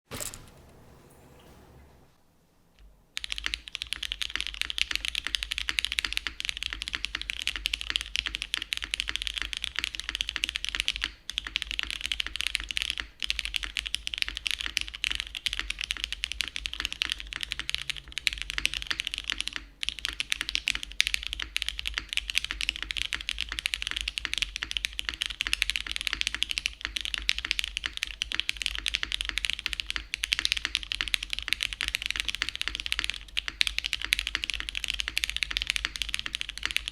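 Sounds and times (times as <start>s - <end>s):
fast typing on mechanical keyboard: 3.2s - 36.9s.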